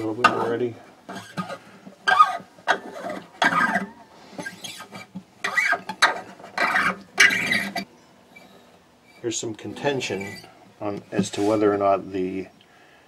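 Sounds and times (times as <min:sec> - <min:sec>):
squeaky guitar string scrapes: 0:00.2 - 0:11.7.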